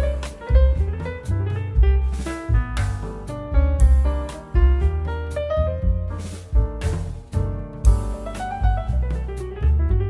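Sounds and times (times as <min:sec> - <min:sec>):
deep bass line: 0:00.0 - 0:10.0.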